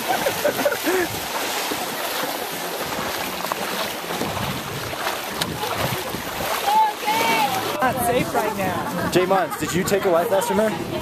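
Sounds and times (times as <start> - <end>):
legs wading through water: 0.0 - 11.0
shallow river water rushing: 0.0 - 11.0.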